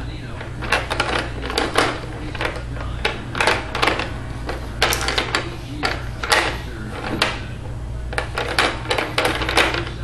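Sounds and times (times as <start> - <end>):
plastic toys clicking and clattering: 0.3 - 7.5, 8.1 - 10.0.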